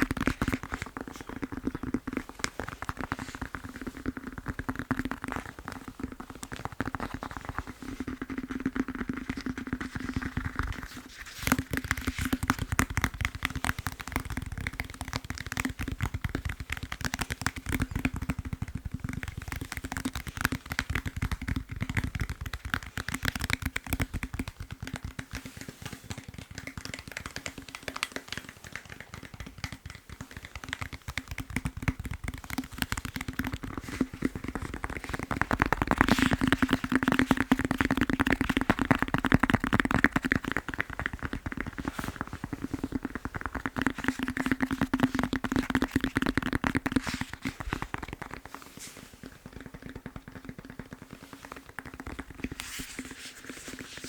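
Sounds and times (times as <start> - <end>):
fast tapping on foam roller: 0.0 - 54.0.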